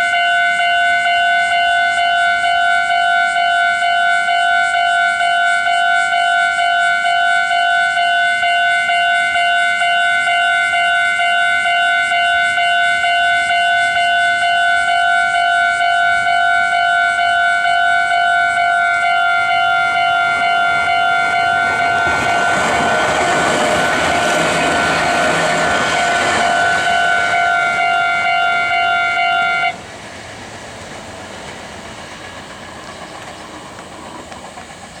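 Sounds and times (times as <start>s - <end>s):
level crossing alarm dinging: 0.0s - 29.8s
electric train passing: 0.0s - 35.0s.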